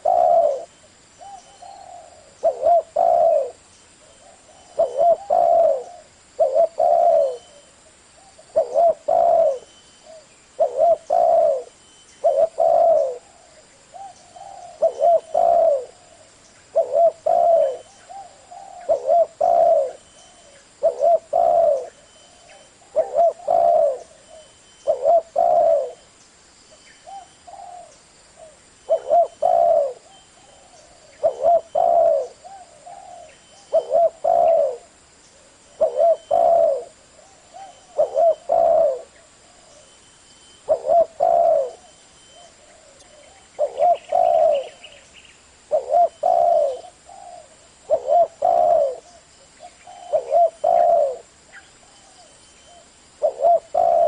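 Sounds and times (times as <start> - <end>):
dove cooing: 0.0 - 26.1, 27.0 - 54.0.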